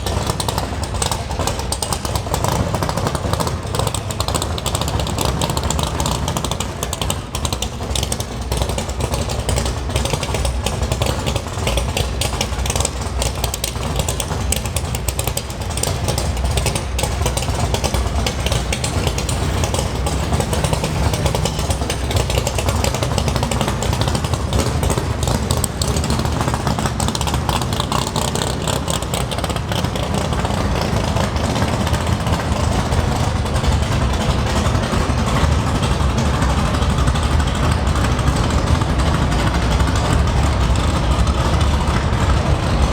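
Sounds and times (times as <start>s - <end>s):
loud car exhaust idling: 0.0s - 42.9s.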